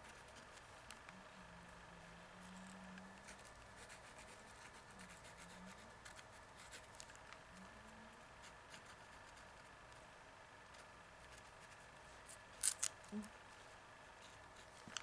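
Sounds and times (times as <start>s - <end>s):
faint low wavering hum: 0.0s - 15.0s.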